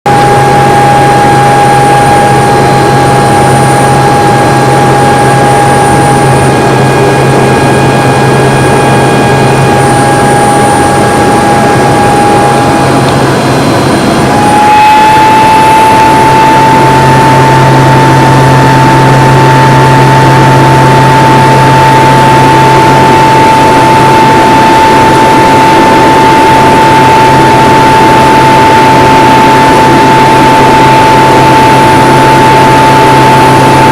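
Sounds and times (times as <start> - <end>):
light aircraft engine drone: 0.1 - 33.9.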